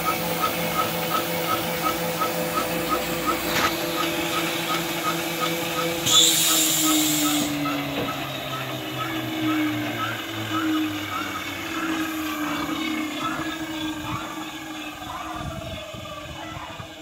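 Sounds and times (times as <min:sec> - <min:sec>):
electric motor hum: 0:00.0 - 0:17.0.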